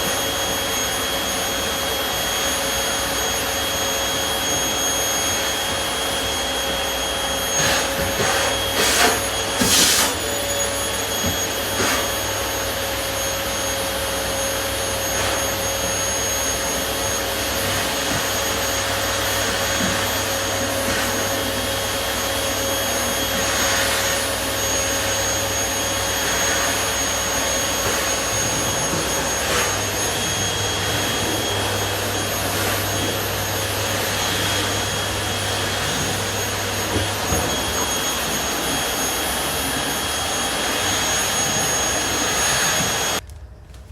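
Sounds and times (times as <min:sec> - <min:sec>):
vacuum cleaner running: 0:00.0 - 0:43.6.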